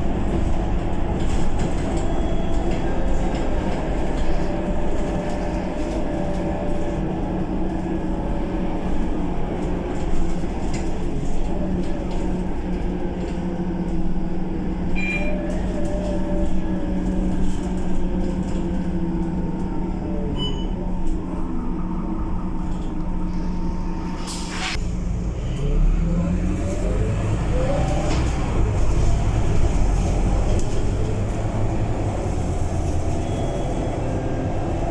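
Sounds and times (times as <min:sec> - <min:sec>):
bus diesel engine: 0:00.0 - 0:34.9.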